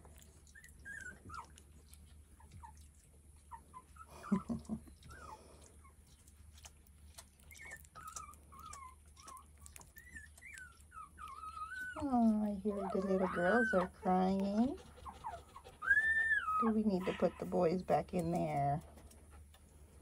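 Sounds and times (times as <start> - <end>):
puppies whimpering: 0.0 - 6.0, 7.4 - 18.7.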